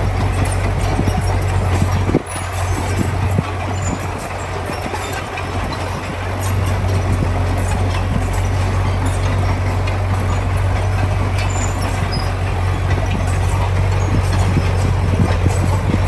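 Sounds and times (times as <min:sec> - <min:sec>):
diesel engine running: 0:00.0 - 0:16.0
light clicks and rattles: 0:00.0 - 0:16.0.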